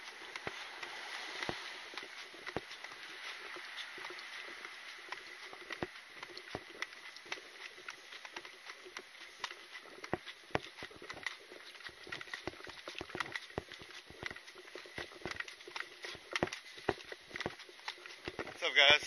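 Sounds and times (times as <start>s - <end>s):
carried gear rattling: 0.0s - 19.0s
footsteps: 0.0s - 19.0s.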